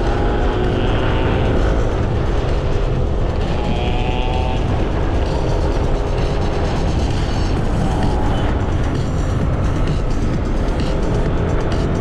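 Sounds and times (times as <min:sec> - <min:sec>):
scooter engine running: 0:00.0 - 0:12.0
wind rumble on microphone: 0:00.0 - 0:12.0.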